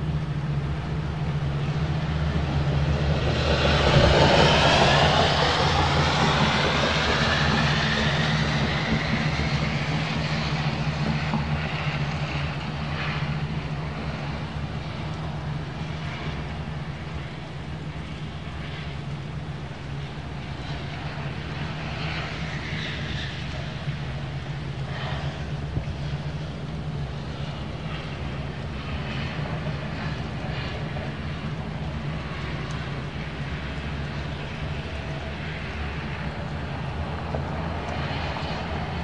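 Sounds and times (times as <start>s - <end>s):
distant engine passing by: 0.0s - 39.0s.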